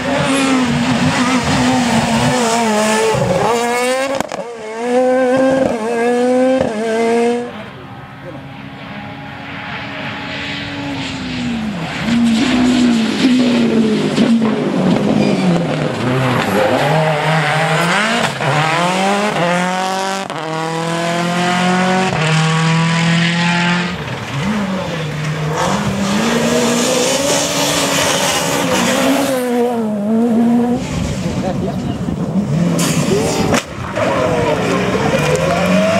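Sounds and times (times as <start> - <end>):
rally car engine revving: 0.0 - 35.9.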